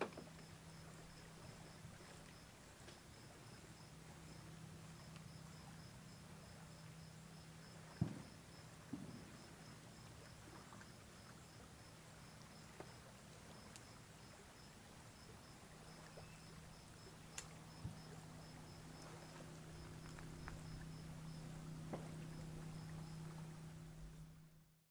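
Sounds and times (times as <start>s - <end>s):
cricket chirping: 0.0s - 24.5s
steady low hum: 0.0s - 24.8s.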